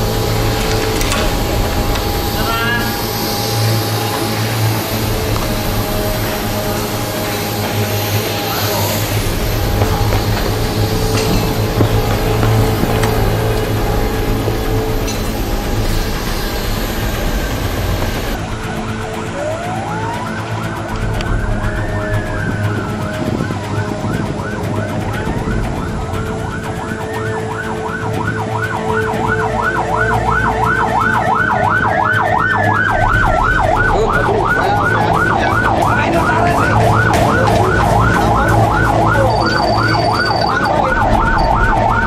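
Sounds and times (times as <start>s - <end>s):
emergency vehicle sirens wailing: 0.0s - 42.0s
fast siren yelp: 2.2s - 42.0s.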